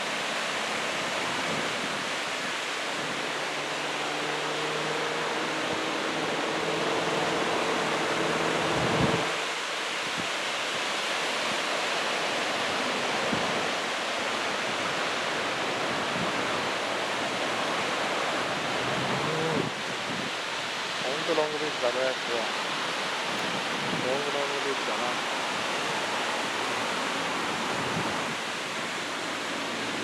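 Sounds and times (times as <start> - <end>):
wind: 0.0 - 30.0.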